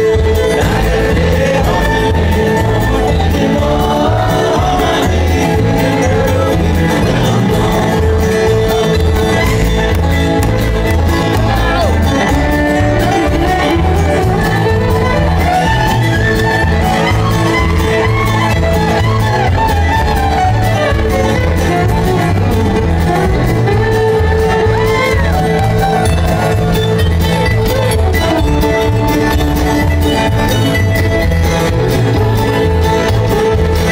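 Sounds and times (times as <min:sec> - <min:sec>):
banjo: 0:00.0 - 0:33.9
fiddle melody: 0:00.0 - 0:33.9
strummed acoustic guitars: 0:00.0 - 0:33.9
upright bass walking: 0:00.0 - 0:33.9.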